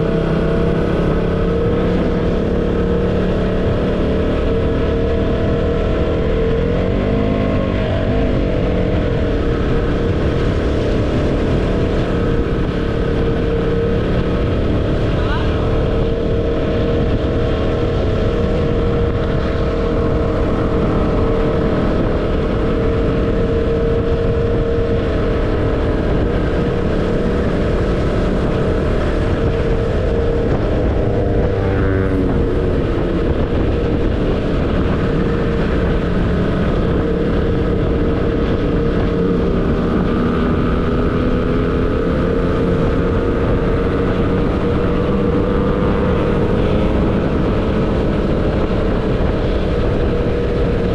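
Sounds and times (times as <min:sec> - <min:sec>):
motorcycle engine running: 0:00.0 - 0:50.9
wind rush on microphone: 0:00.0 - 0:50.9.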